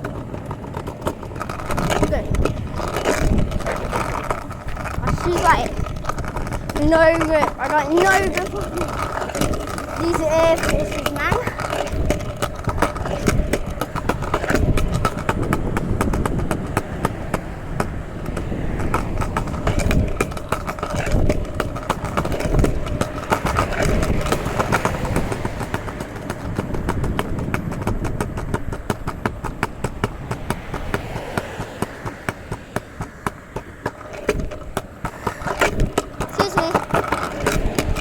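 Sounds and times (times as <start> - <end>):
wheels rolling on wet pavement: 0.0 - 38.0
wind buffeting microphone: 0.0 - 38.0.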